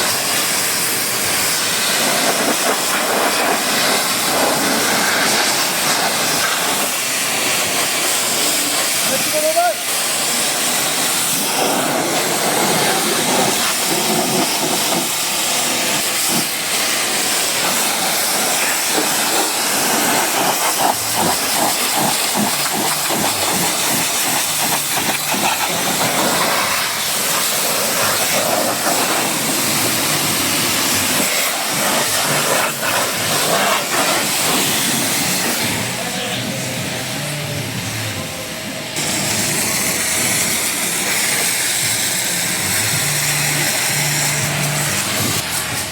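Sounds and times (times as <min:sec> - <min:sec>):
pressure washer spraying car: 0:00.0 - 0:45.9.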